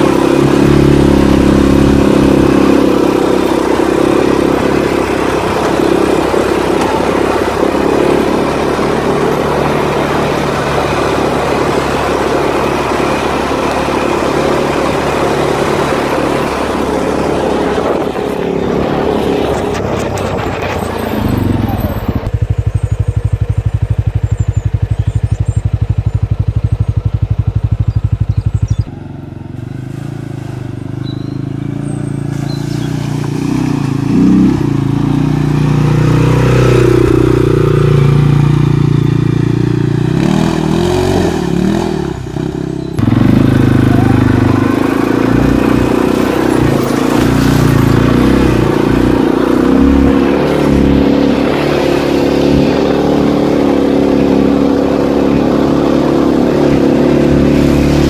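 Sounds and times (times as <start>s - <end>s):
atv engine approaching: 0.0s - 58.0s
atv engine running: 0.0s - 58.0s.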